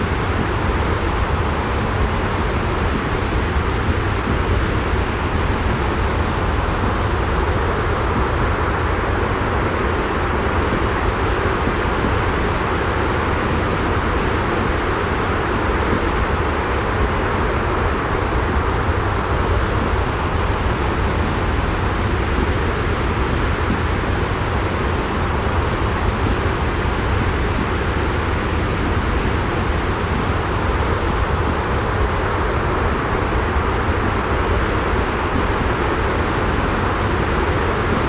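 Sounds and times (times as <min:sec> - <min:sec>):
rushing white noise with rumble: 0:00.0 - 0:38.0.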